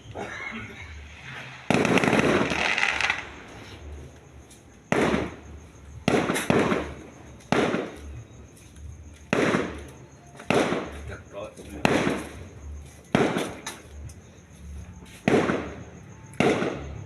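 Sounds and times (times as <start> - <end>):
fireworks bangs and crackling: 0.9 - 4.2, 4.8 - 14.2, 15.0 - 17.0.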